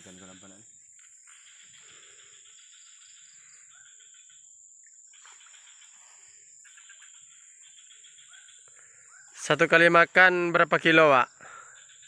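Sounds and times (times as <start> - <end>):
insects buzzing trills: 0.0 - 12.0.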